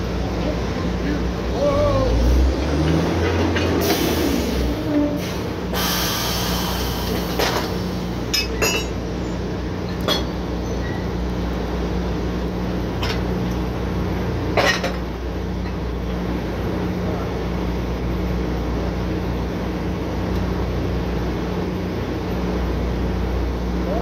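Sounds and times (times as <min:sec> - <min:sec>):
drilling rig machinery drone: 0:00.0 - 0:24.0.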